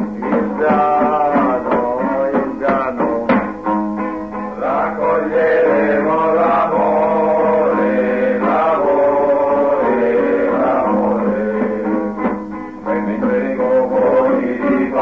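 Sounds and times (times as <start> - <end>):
men singing held notes: 0.0 - 3.5, 4.6 - 15.0
acoustic guitar strumming: 0.0 - 15.0
improvised drums: 0.0 - 15.0.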